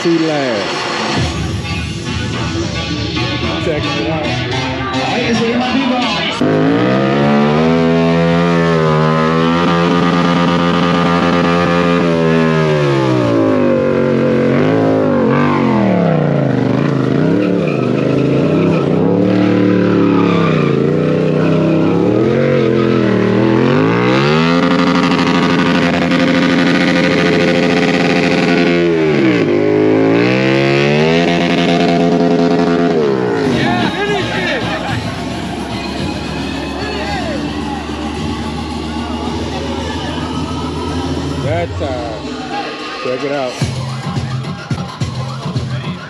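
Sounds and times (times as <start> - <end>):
motorcycle engine revving: 0.0 - 45.8
rear tire spinning: 5.2 - 45.8.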